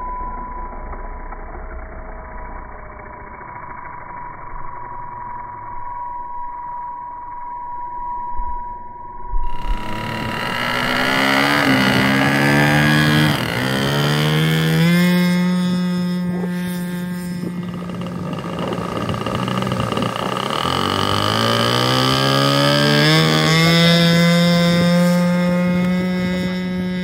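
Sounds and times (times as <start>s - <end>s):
model aircraft engine running: 0.0s - 6.1s, 9.4s - 27.0s.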